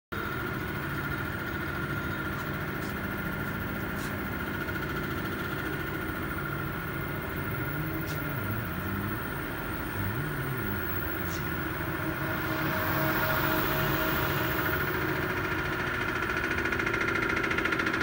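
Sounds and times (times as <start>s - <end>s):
steady electrical hum: 0.2s - 17.8s
constant high whine: 0.2s - 18.0s.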